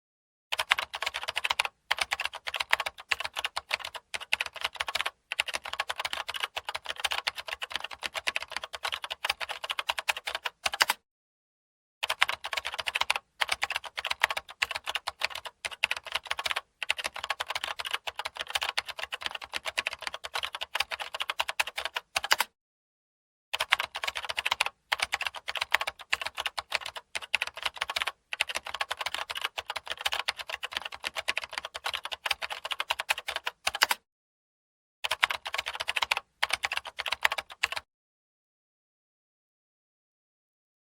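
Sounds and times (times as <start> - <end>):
fast typing on computer keyboard: 0.5 - 11.0, 12.0 - 22.5, 23.6 - 34.0, 35.0 - 37.9.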